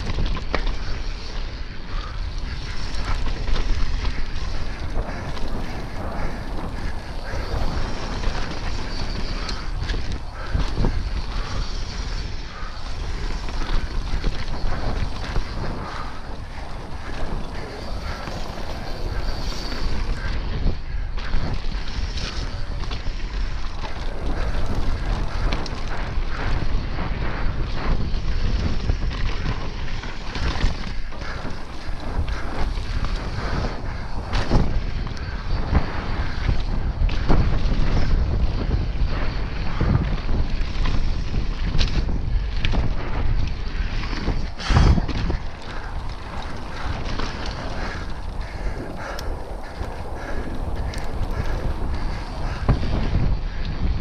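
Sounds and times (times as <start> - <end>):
bike clattering over bumps: 0.0 - 54.0
tyres on loose dirt: 0.0 - 54.0
wind buffeting microphone: 0.0 - 54.0.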